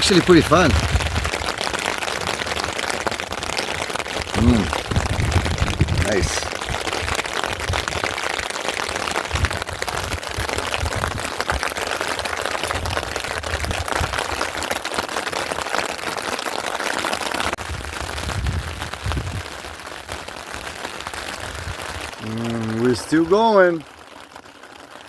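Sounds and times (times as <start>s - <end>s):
steady rain pattering: 0.0s - 25.0s.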